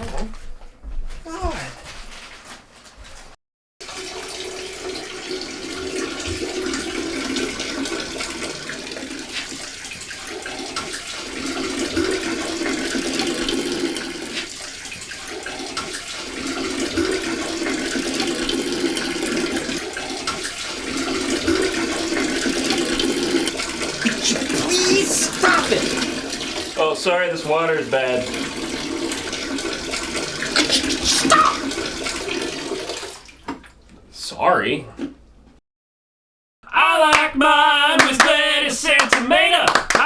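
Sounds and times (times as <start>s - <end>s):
water running and splashing: 1.3s - 34.0s.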